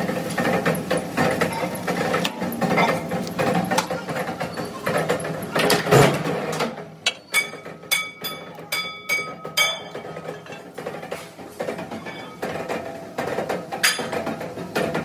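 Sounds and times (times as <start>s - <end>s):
press and steel plate clatter: 0.2s - 15.0s.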